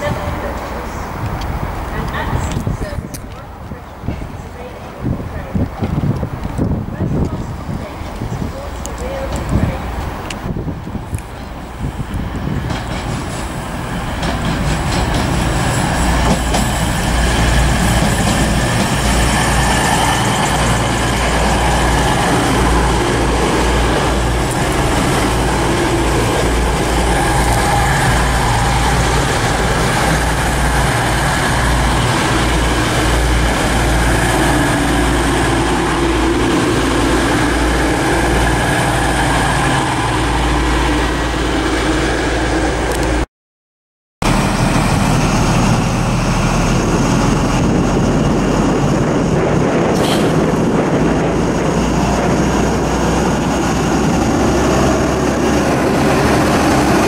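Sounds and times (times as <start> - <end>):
diesel train rumbling past: 0.0 - 43.3, 44.2 - 57.0.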